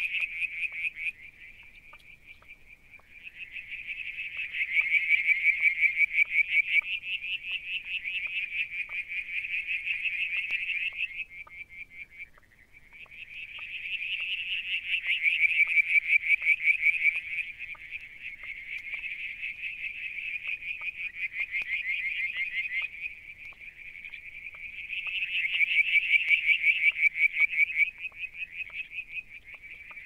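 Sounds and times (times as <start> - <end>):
frog trilling: 0.0 - 30.0.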